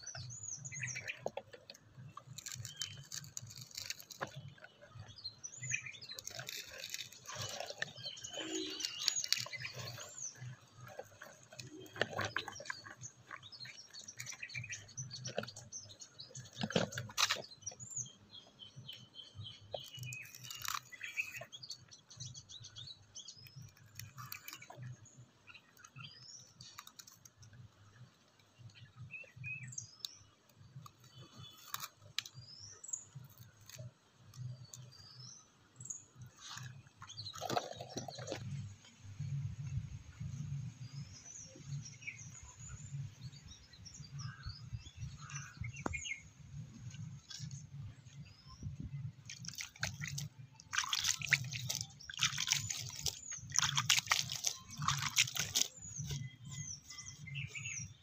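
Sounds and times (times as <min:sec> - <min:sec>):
dry seed husk crackling: 0:00.0 - 0:35.4, 0:36.1 - 0:41.1, 0:41.7 - 0:58.0
small birds chirping: 0:00.0 - 0:58.0.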